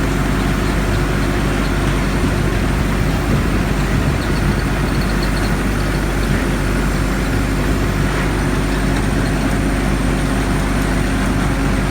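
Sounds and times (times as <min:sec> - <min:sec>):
harvester engine drone: 0:00.0 - 0:11.9.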